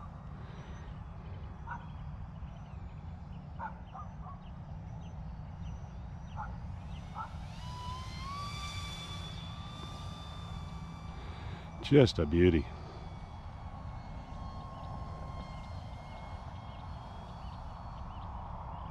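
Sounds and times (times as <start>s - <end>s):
model plane motor whining: 0.0s - 18.9s.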